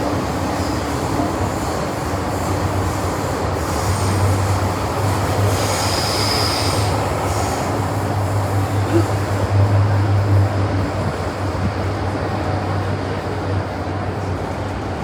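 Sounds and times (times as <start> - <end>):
train rumbling in tunnel: 0.0 - 15.0.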